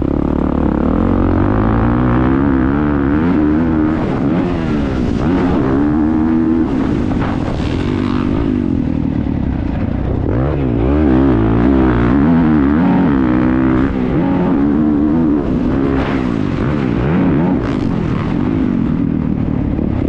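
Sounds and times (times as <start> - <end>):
motocross bike engine: 0.0 - 20.0.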